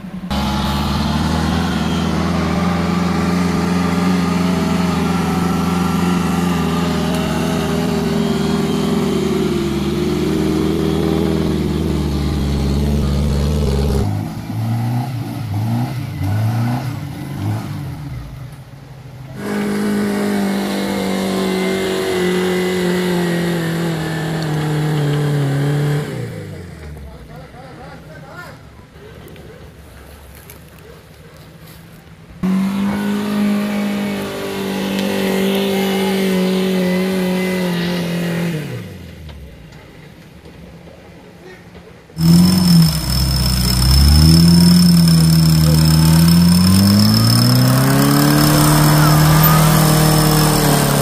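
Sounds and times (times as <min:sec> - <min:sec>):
vehicle engine running and revving: 0:00.0 - 0:27.2, 0:32.4 - 0:39.8, 0:42.2 - 0:51.0.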